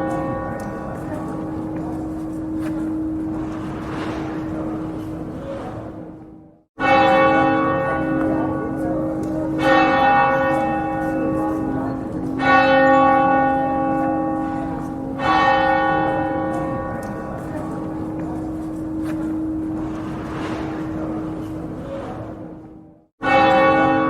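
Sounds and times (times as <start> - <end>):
church bell tolling: 0.0 - 24.0.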